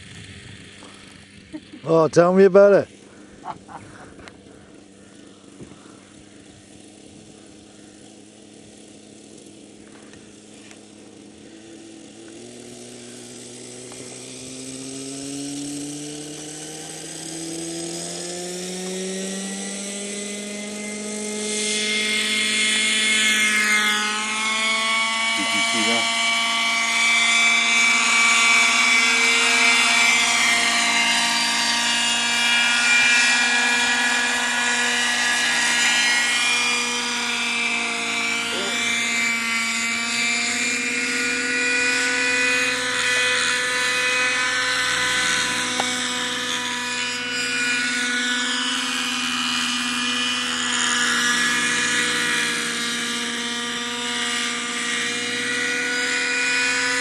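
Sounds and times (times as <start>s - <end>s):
model helicopter engine whine: 0.0s - 57.0s.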